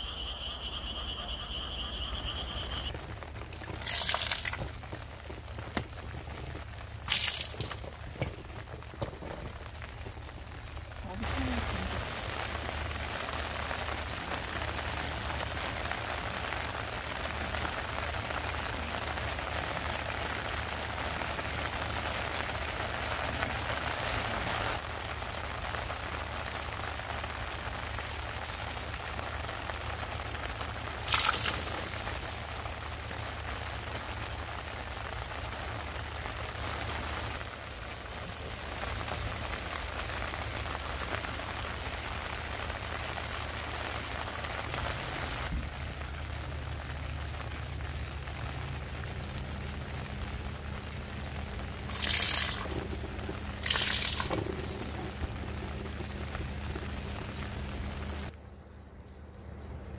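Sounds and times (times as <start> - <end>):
rain falling on river: 0.0 - 58.4.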